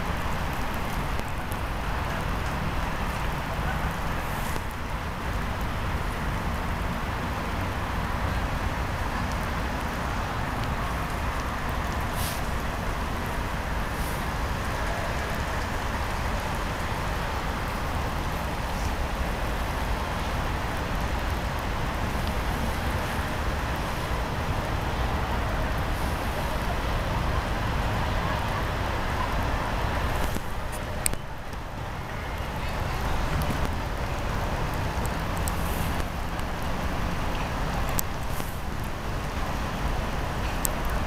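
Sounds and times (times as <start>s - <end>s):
city traffic rumble: 0.0s - 41.0s
rain hissing: 0.0s - 41.0s.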